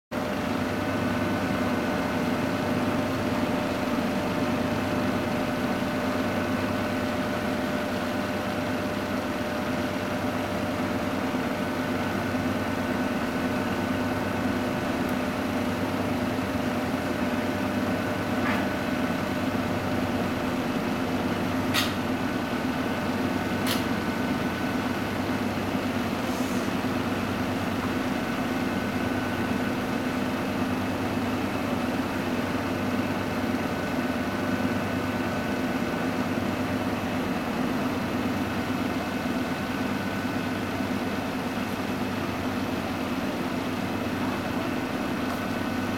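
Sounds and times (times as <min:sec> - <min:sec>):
train machinery humming: 0:00.2 - 0:45.9.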